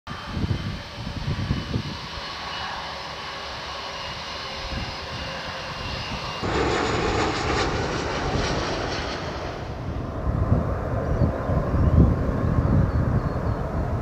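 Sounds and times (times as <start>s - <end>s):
jet engine rush with whining: 0.1s - 14.0s.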